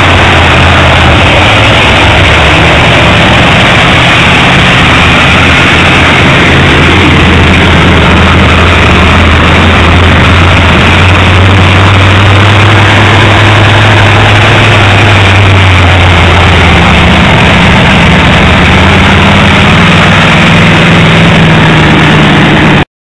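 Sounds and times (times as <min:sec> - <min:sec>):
distorted loud truck engine: 0:00.0 - 0:22.9.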